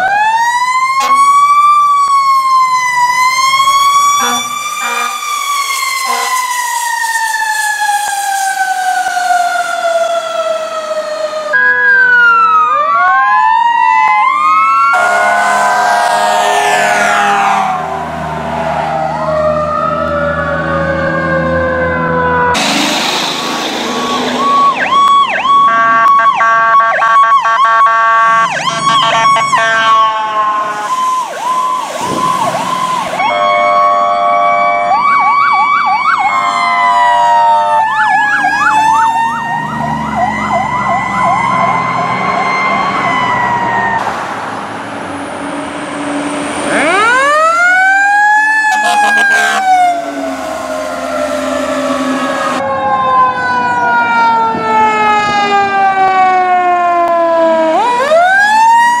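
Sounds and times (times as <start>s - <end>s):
electronic sirens wailing and yelping: 0.0s - 22.8s, 23.4s - 44.0s, 46.4s - 59.0s
siren winding up and down: 0.0s - 44.0s, 46.5s - 59.0s.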